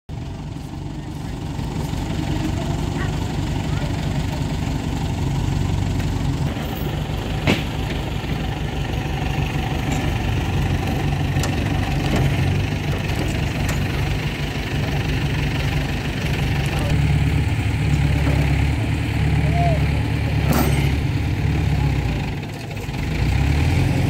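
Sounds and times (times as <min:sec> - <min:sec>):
diesel engine idling: 0:00.1 - 0:24.0.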